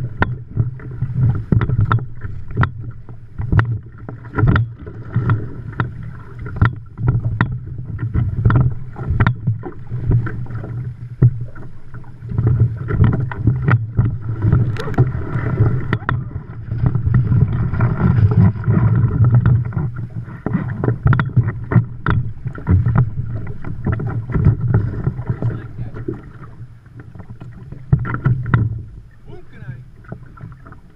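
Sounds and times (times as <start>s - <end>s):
water rushing past a hull: 0.0s - 30.9s
waves slapping a boat: 0.0s - 30.9s.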